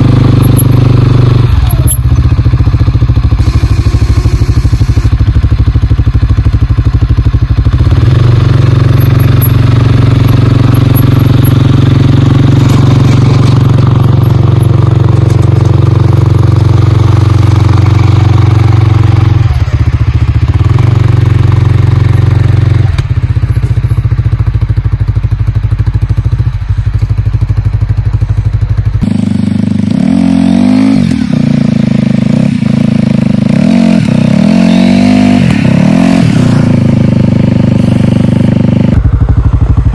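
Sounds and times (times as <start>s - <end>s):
atv engine running and revving: 0.0s - 39.9s.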